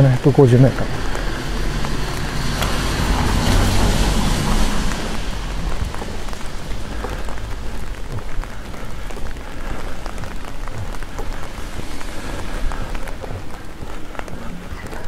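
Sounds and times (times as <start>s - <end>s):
steady street hiss: 0.0s - 15.0s.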